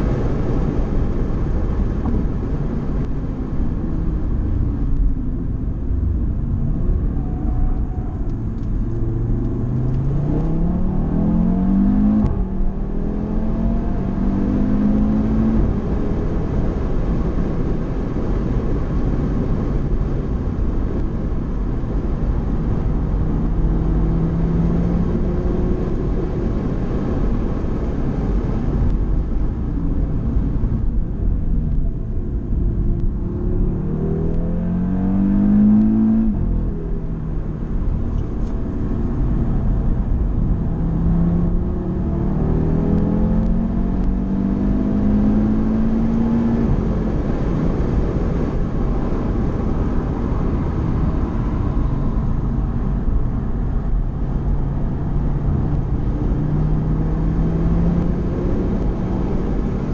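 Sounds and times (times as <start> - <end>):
car engine revving: 0.0 - 59.9
tyre and road noise: 0.0 - 59.9.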